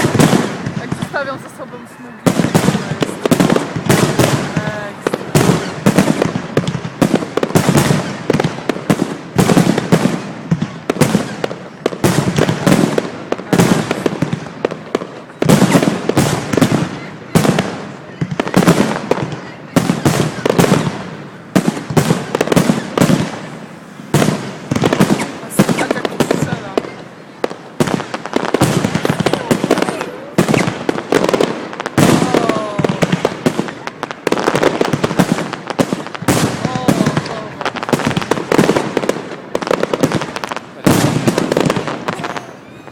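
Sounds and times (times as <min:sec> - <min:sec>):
fireworks banging and crackling: 0:00.0 - 0:42.9
fireworks heavy booms: 0:00.0 - 0:42.9.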